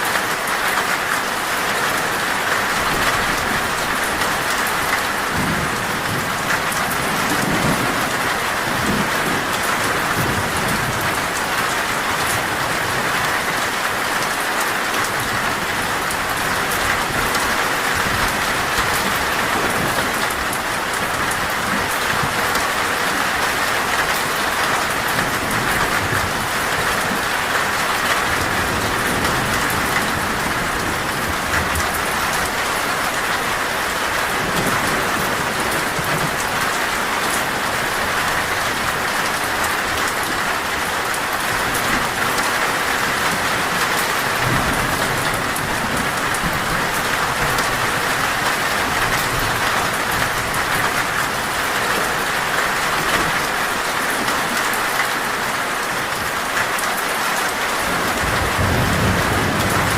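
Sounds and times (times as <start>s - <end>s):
heavy rain on a metal roof: 0.0s - 59.9s.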